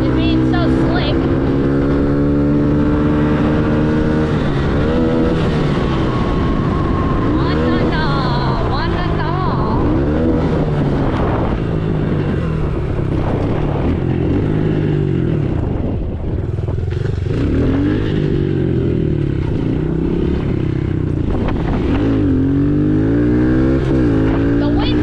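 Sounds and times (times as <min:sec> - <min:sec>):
dirt bike engine revving: 0:00.0 - 0:16.2, 0:17.0 - 0:25.0.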